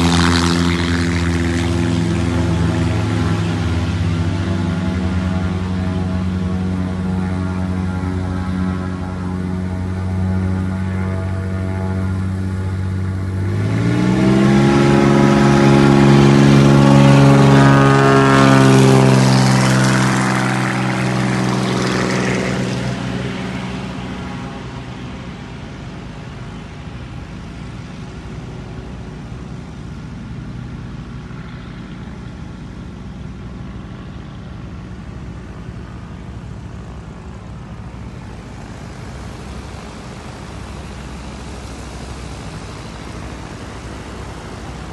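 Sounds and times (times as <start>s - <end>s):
propeller airplane engine passing: 0.0s - 44.9s
steady engine drone: 0.0s - 44.9s.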